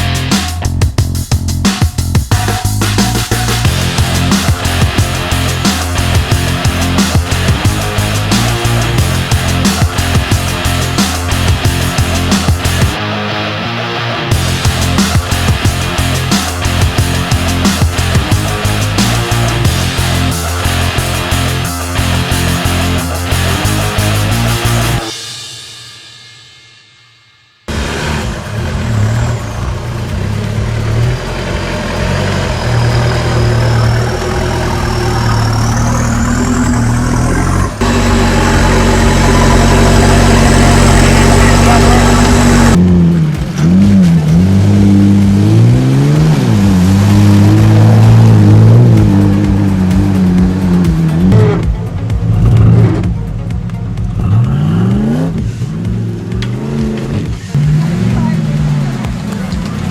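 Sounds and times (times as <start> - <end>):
truck engine revving: 0.0 - 25.1, 27.7 - 59.9
high motor whine: 1.6 - 25.2, 27.7 - 56.7.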